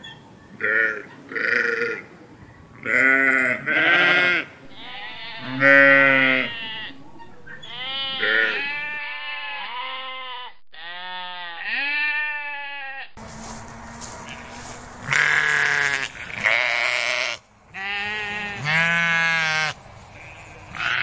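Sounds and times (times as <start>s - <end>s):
sheep bleating: 0.6s - 2.1s, 2.8s - 13.2s, 14.3s - 21.0s
goats bleating: 2.8s - 13.1s, 14.3s - 21.0s.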